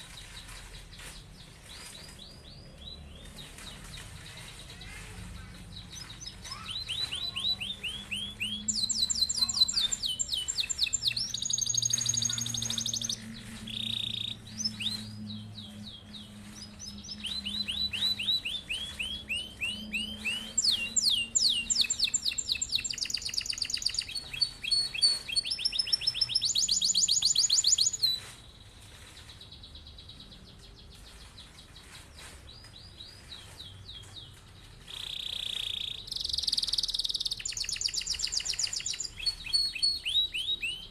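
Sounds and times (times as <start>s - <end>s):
canary singing trills: 5.7s - 40.9s.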